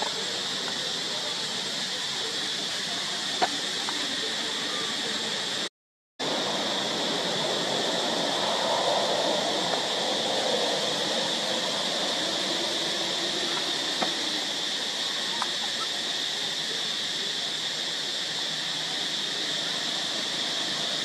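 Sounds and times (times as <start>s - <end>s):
cicadas droning: 0.0s - 21.0s
outdoor hiss: 0.0s - 21.0s.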